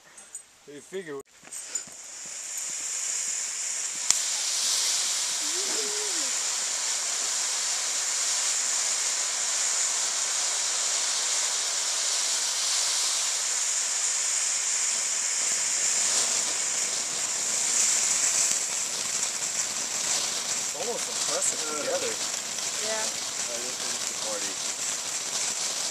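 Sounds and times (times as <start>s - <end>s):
fountain firework hissing: 1.0s - 25.9s.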